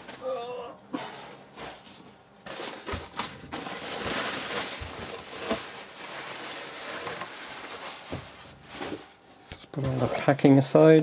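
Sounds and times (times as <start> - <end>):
tissue paper rustling: 1.5 - 10.5.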